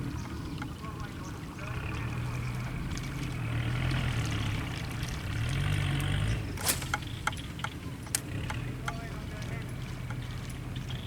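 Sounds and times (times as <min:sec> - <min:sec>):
small boat motor running: 0:00.0 - 0:11.0.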